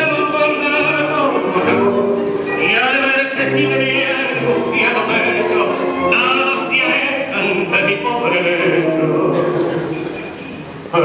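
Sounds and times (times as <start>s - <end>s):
tango music with vocalist singing: 0.0s - 11.0s.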